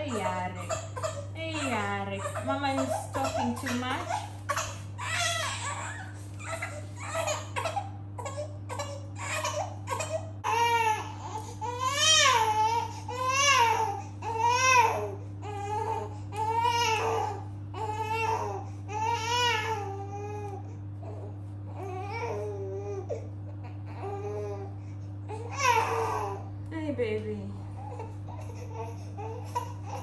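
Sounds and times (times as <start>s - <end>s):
newborn baby crying: 0.0s - 26.5s, 27.8s - 30.0s.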